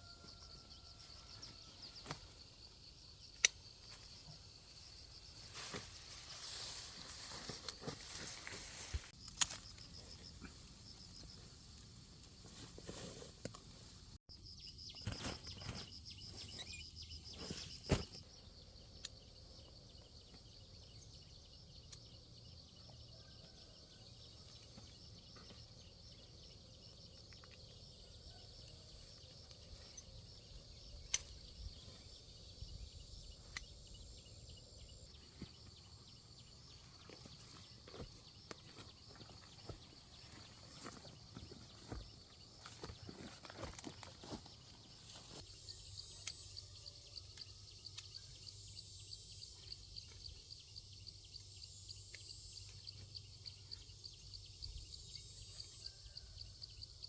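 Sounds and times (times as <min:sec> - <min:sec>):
insect trill: 0:00.0 - 0:57.0.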